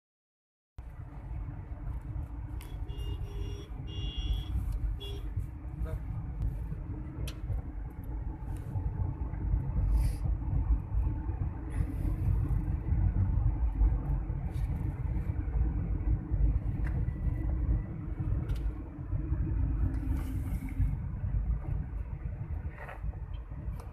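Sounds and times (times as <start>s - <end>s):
car engine and tyres rumbling: 0.8s - 23.9s.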